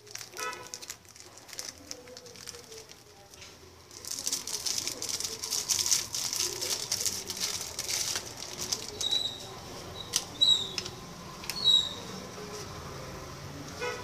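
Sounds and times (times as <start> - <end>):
plastic wrapper and paper crinkling: 0.0 - 11.6.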